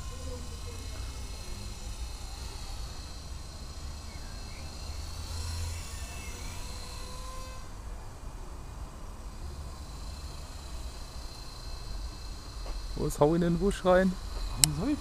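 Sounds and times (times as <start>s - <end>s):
helicopter rotor whine: 0.0s - 7.9s, 9.1s - 15.0s.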